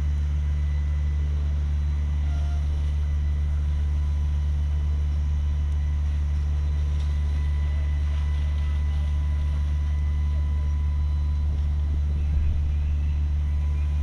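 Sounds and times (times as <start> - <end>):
faint high whine: 0.0 - 14.0
fire engine pump droning: 0.0 - 14.0.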